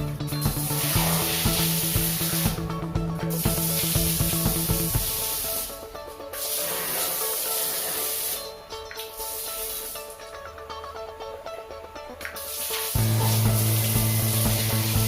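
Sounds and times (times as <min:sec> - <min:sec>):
pressurized water spraying: 0:00.0 - 0:10.2, 0:12.2 - 0:15.0
background music: 0:00.0 - 0:15.0.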